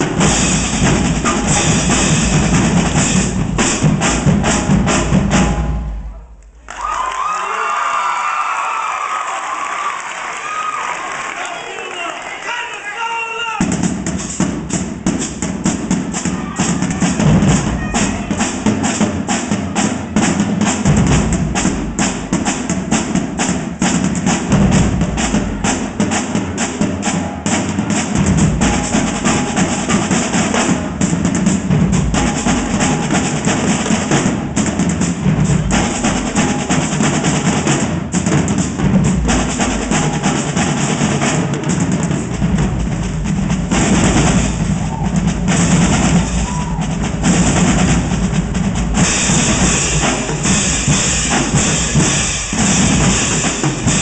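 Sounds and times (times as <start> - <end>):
marching drumline playing: 0.0 - 7.3, 12.5 - 54.0.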